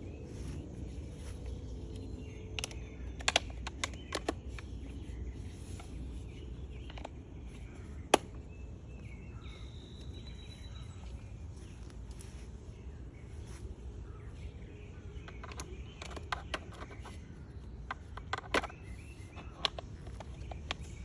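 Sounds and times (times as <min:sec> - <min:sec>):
low outdoor background: 0:00.0 - 0:21.0.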